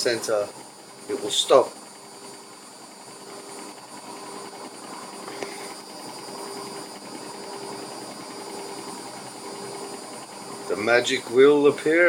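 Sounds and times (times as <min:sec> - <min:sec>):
washing machine motor and drum hum: 0:00.0 - 0:12.0.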